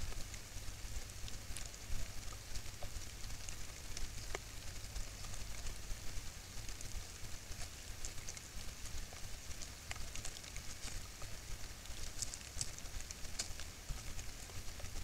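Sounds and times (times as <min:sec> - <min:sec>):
microphone hum and hiss: 0:00.0 - 0:15.0.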